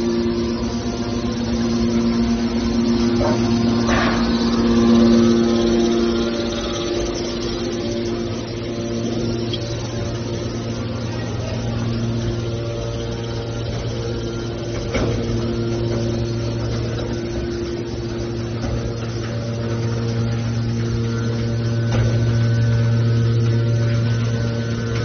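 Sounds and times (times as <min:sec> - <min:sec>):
hydraulic motor and pump humming: 0:00.0 - 0:25.0.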